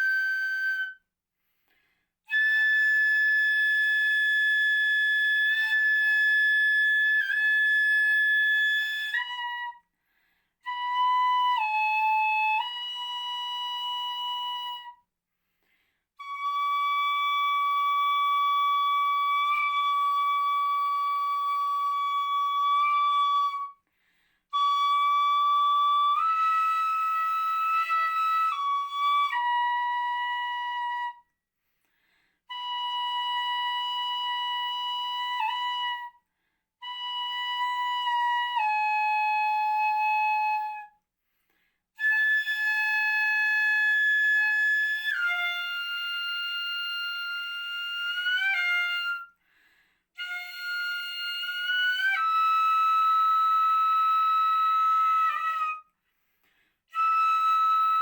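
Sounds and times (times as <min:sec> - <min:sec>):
bamboo flute melody: 0:00.0 - 0:01.1, 0:02.2 - 0:10.0, 0:10.6 - 0:15.1, 0:16.2 - 0:31.4, 0:32.4 - 0:41.0, 0:41.9 - 0:49.4, 0:50.1 - 0:58.0.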